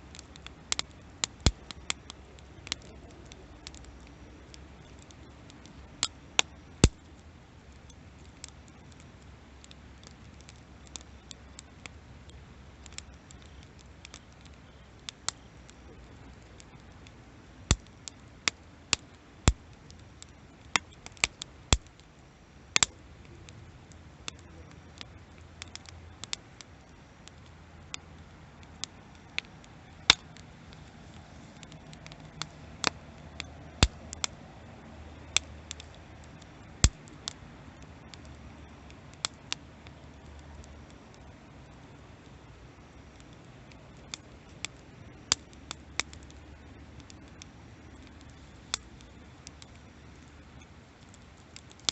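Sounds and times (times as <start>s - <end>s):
bonfire crackling and popping: 0.0s - 51.9s
low steady hiss: 0.0s - 51.9s.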